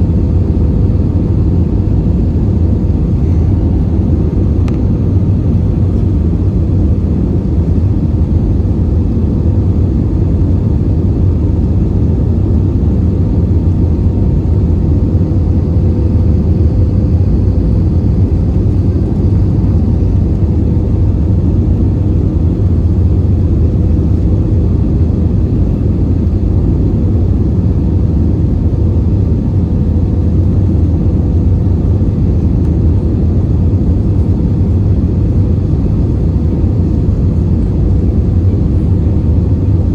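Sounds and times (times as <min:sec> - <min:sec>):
airplane cabin roar: 0:00.0 - 0:39.9
faint steady hum: 0:00.0 - 0:39.9.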